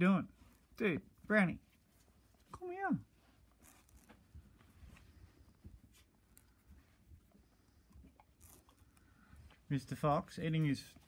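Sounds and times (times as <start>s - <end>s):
faint rustles: 1.6s - 11.0s.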